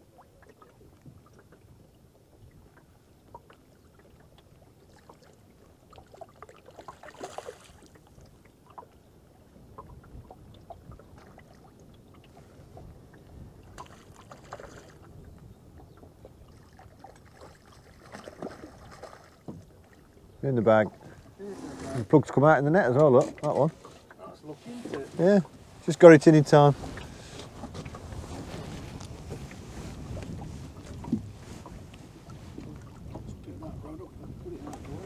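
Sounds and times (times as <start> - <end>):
water lapping against boat hull: 0.0 - 35.0.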